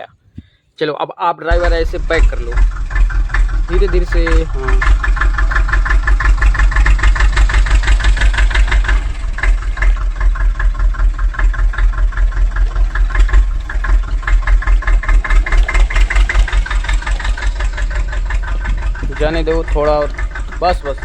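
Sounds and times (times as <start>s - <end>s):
tractor engine chugging: 1.5s - 21.0s.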